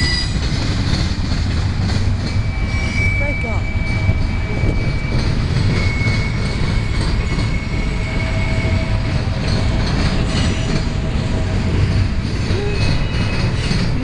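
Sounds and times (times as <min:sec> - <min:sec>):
high wheel squeal: 0:00.0 - 0:00.5, 0:02.1 - 0:14.0
train wheels rumbling on rail: 0:00.0 - 0:14.0
wheels clacking over rail joints: 0:00.0 - 0:14.0.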